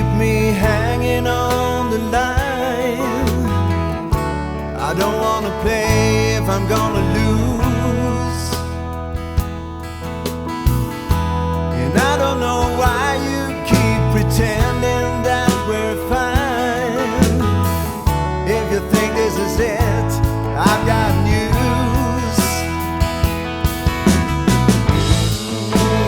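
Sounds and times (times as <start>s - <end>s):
band music with bass and drums: 0.0s - 26.0s.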